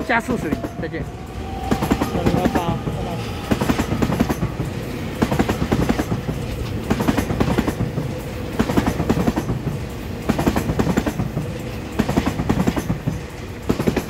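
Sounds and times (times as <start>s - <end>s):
train rumble: 0.0s - 14.0s
train wheels clattering over rail joints: 0.2s - 14.0s.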